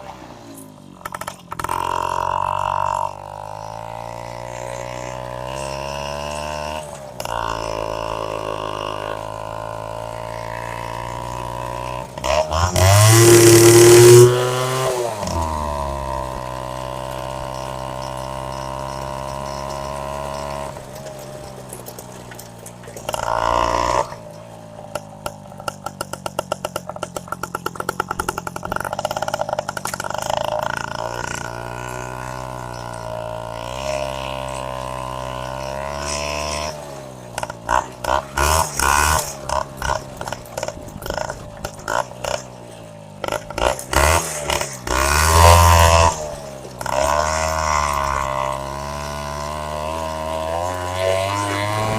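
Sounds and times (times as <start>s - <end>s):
two-stroke engine idling and revving: 0.0s - 51.9s.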